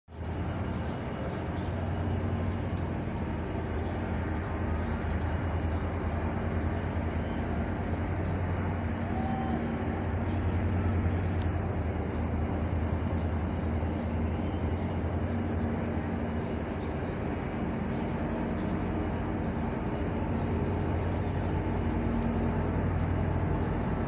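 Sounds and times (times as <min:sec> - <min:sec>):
diesel engines droning: 0:00.1 - 0:24.0.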